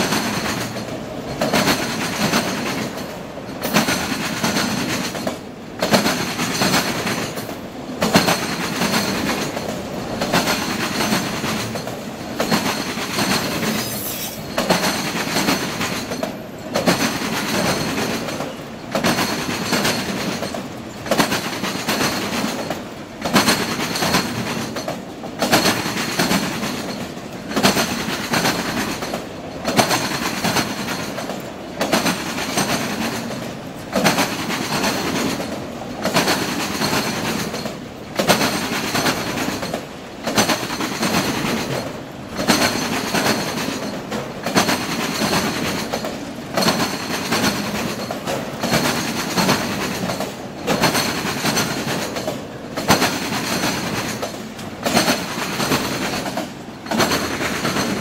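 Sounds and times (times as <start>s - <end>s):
train wheels clattering over crossing: 0.0s - 58.0s.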